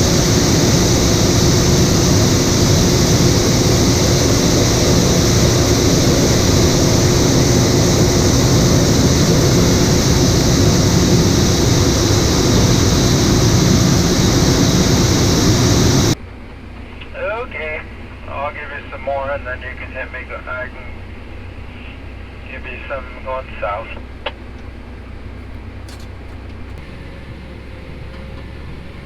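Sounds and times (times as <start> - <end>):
harvest machinery droning: 0.0 - 18.5, 24.0 - 29.0.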